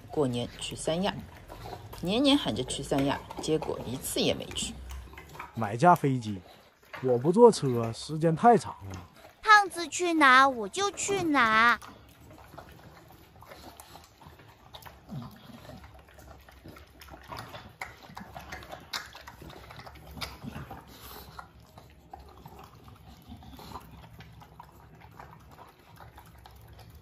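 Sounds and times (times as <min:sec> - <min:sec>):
dogs lapping and chewing food: 0:00.0 - 0:27.0.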